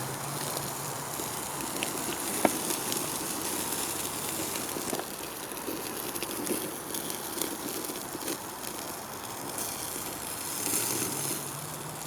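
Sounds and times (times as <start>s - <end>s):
campfire crackling and popping: 0.0s - 12.0s
chicken sizzling: 0.0s - 12.0s.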